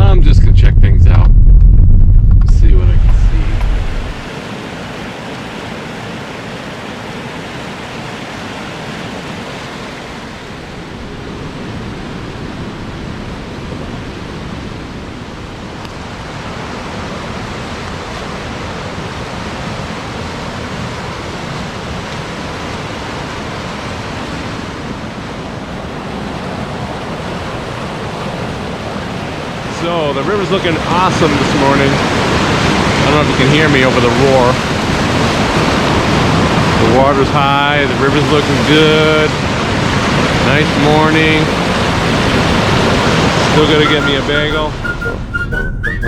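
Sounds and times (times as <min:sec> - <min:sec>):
rushing river water: 0:03.7 - 0:45.6.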